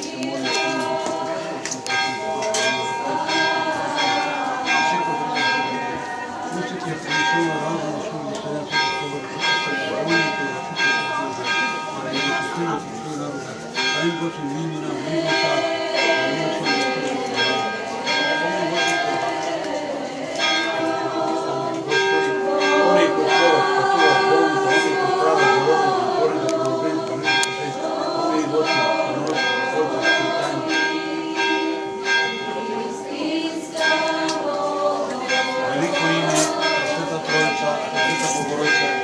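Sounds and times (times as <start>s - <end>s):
church bells ringing: 0.0s - 39.0s
slow choral singing: 0.0s - 39.0s.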